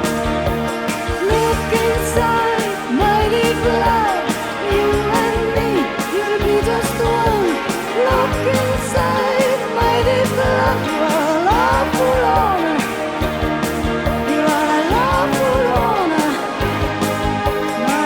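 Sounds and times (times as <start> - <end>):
drum beat: 0.0 - 18.0.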